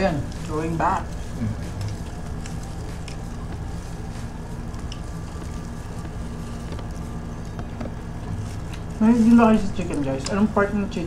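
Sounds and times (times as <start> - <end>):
people chewing fried chicken: 0.0 - 10.5
low background hum: 0.0 - 11.0.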